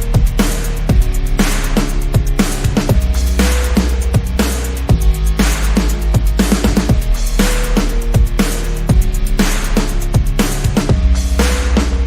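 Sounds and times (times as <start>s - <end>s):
electronic music with bass kicks: 0.0s - 12.0s.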